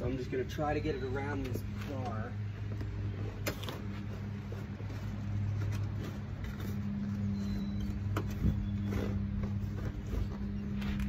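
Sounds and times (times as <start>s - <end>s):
steady low hum: 0.0s - 11.0s
rubber floor mat handling: 1.3s - 11.0s.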